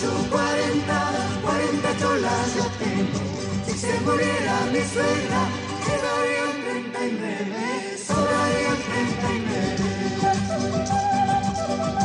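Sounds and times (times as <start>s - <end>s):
voices singing folk melody: 0.0s - 12.0s.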